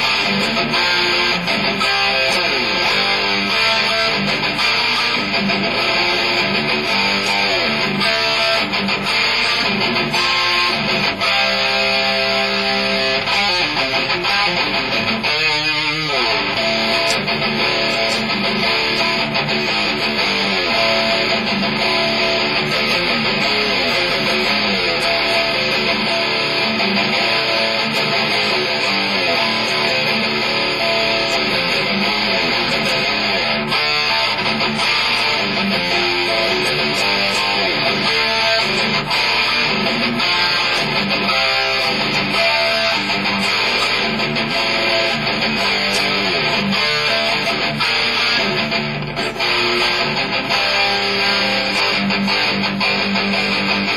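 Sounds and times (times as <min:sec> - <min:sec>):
electric guitar through amplifier: 0:00.0 - 0:53.9.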